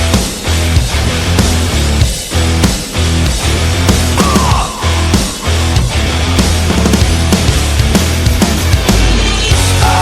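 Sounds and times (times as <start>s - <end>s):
hard rock band playing: 0.0s - 10.0s.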